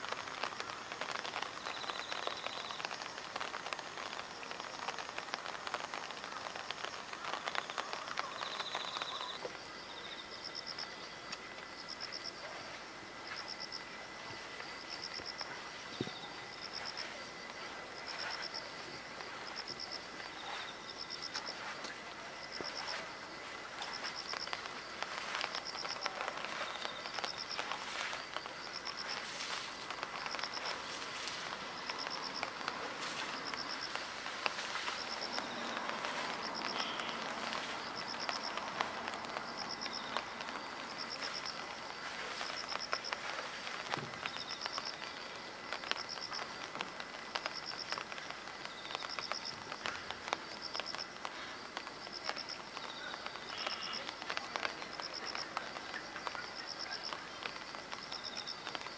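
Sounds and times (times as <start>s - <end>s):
cicadas droning: 0.0s - 58.9s.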